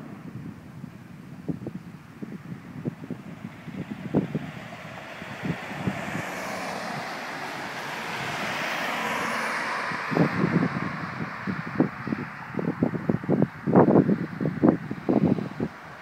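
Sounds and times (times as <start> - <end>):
wind buffeting microphone: 0.0 - 16.0
vehicle passing: 3.0 - 16.0.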